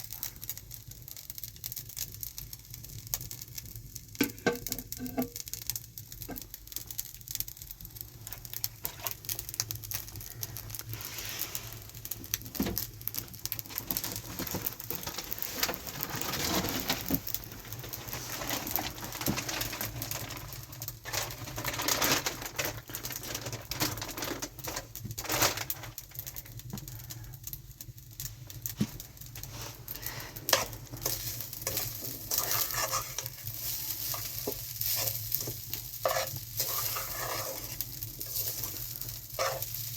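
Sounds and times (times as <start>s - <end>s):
food sizzling in a pan: 0.0s - 21.1s, 24.4s - 39.9s.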